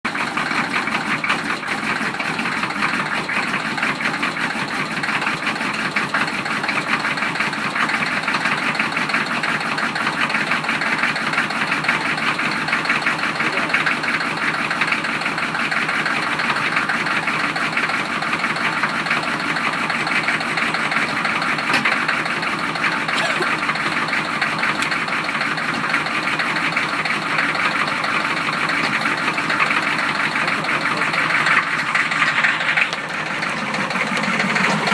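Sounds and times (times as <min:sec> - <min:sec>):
car engine idling with knock: 0:00.1 - 0:34.9.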